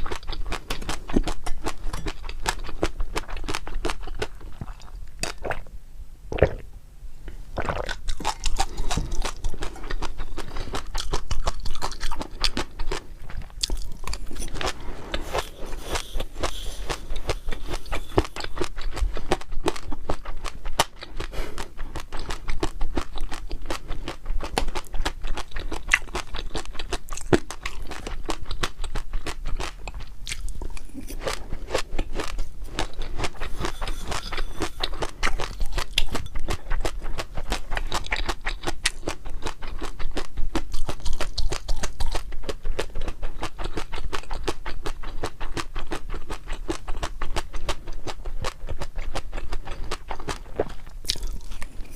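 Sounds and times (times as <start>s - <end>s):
chewing and crunching food: 0.0s - 6.6s, 7.6s - 51.9s.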